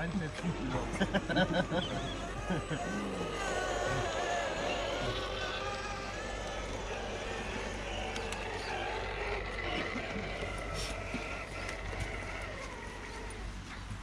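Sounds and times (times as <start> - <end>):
electric motor and gearbox whining: 0.0 - 14.0.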